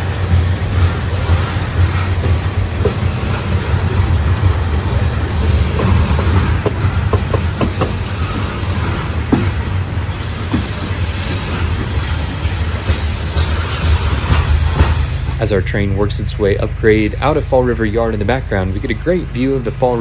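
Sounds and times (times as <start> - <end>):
model train rumbling: 0.0 - 20.0
wheels clicking over rail joints: 0.0 - 20.0.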